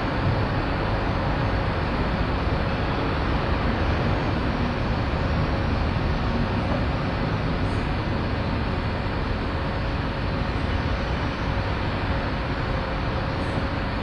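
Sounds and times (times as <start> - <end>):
faint constant hum: 0.0 - 14.0
railway yard background noise: 0.0 - 14.0.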